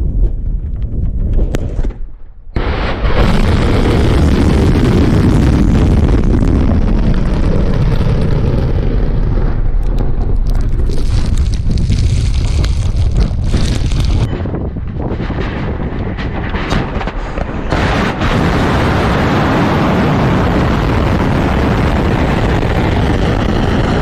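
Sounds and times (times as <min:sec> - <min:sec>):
gusty rushing and crackling: 0:00.0 - 0:24.0.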